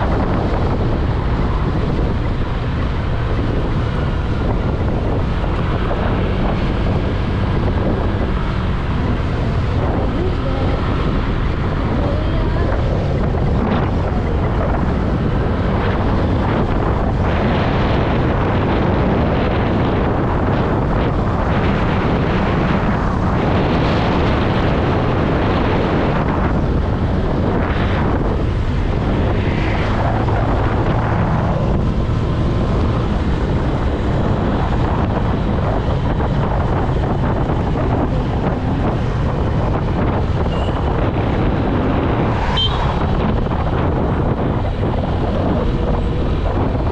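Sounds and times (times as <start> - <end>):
road noise: 0.0 - 46.9
wind rushing over microphone: 0.0 - 46.9.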